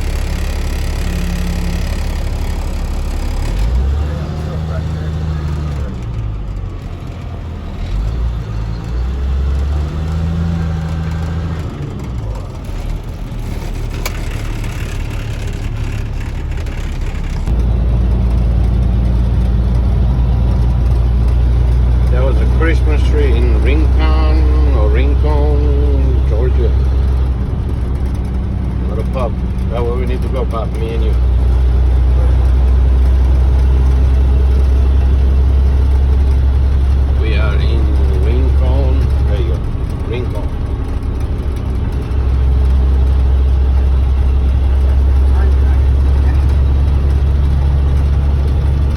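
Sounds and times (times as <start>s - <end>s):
road noise: 0.0s - 48.9s
truck diesel engine rumble: 0.0s - 48.9s.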